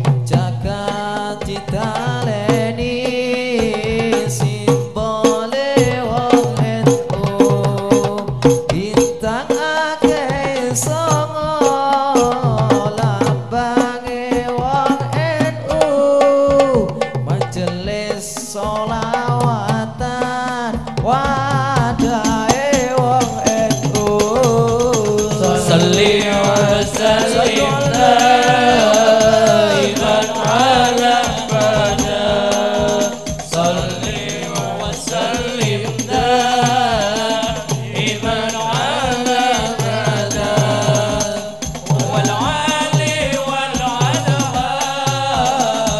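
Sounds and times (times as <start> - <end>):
hand-struck frame drums: 0.0 - 45.9
person singing through microphone: 0.0 - 45.9.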